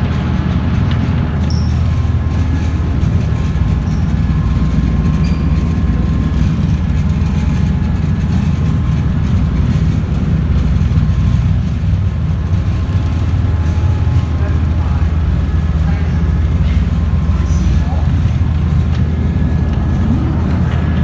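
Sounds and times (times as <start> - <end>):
ferry engines rumbling: 0.0 - 21.0
propeller wash churning: 0.0 - 21.0.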